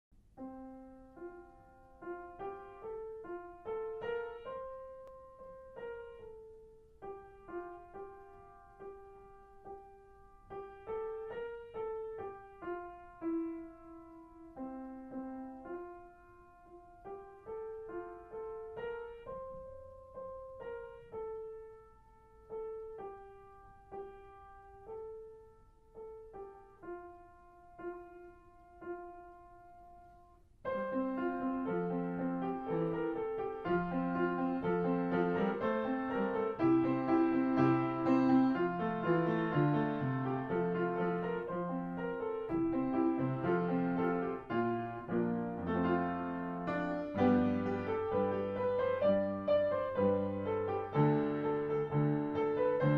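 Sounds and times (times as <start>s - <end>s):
piano music: 0.2s - 52.9s.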